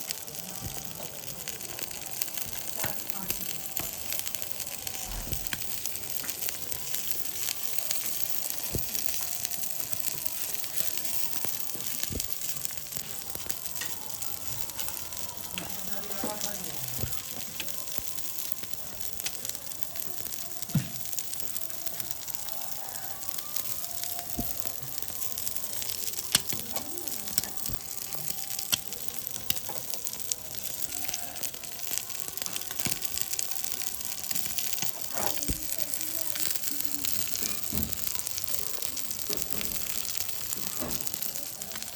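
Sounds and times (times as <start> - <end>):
eggs sizzling in oil: 0.0 - 41.9.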